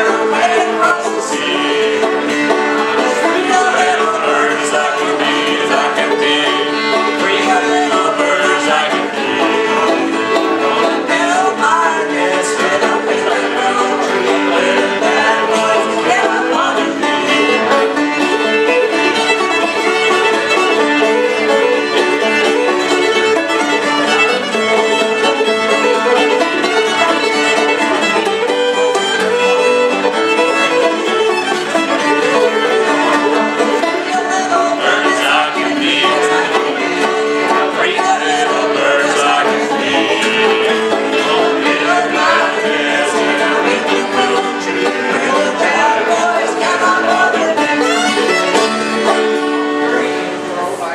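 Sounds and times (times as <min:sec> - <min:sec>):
fiddle: 0:00.0 - 0:50.9
string band playing: 0:00.0 - 0:50.9.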